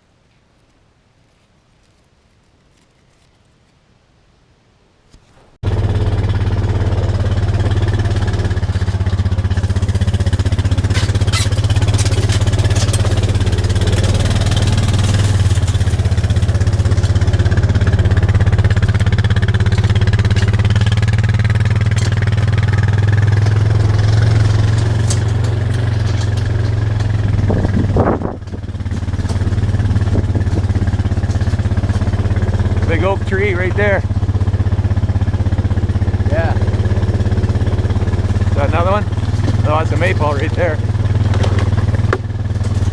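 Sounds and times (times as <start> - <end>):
rattling: 5.6 - 42.9
vehicle engine running: 5.6 - 42.9.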